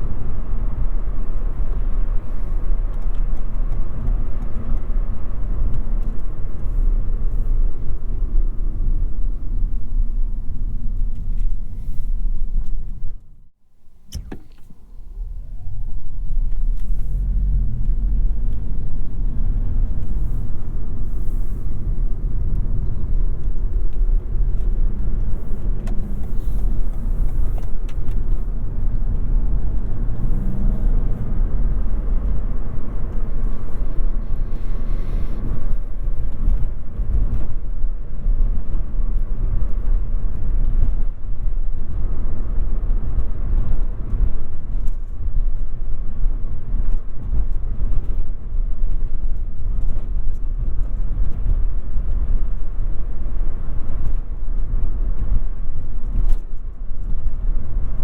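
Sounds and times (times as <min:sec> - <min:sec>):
car road and drivetrain rumble: 0:00.0 - 0:58.0.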